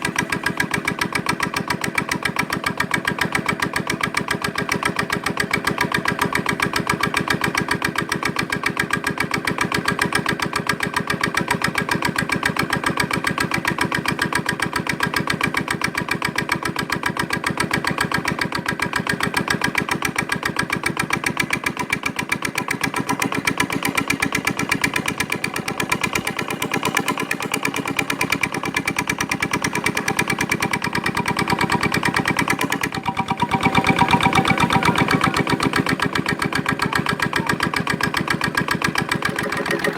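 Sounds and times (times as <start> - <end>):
diesel generator running: 0.0 - 39.9.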